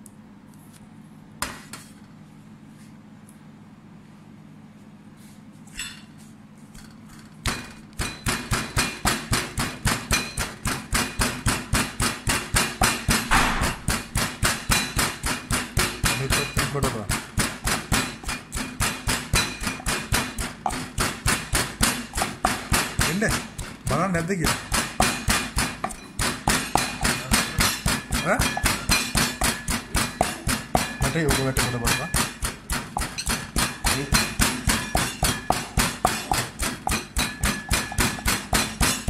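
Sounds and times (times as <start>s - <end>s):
knife chopping on cutting board: 7.5s - 39.0s.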